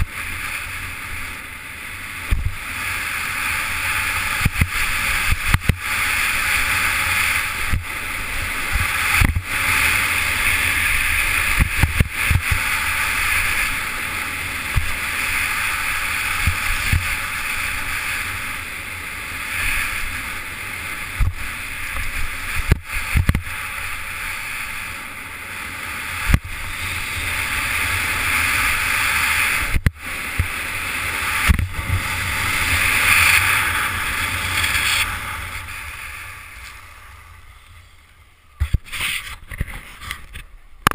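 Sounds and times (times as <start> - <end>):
skis scraping over snow: 0.0 - 40.5
wind rumbling on microphone: 0.0 - 40.9.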